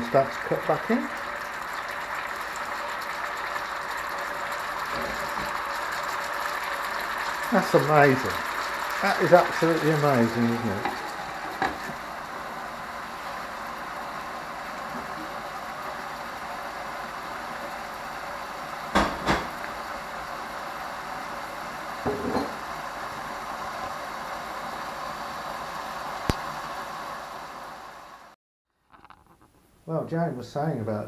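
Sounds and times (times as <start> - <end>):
food sizzling in skillet: 0.0 - 28.3.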